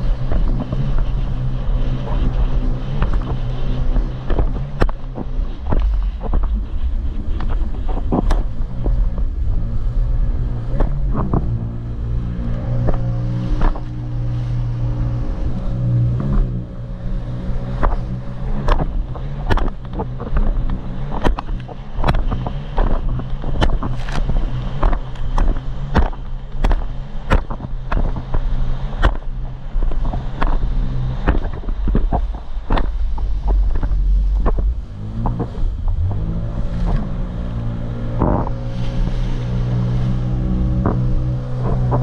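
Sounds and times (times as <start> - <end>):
jet ski engine running: 0.0 - 42.0
low wind rumble: 0.0 - 42.0.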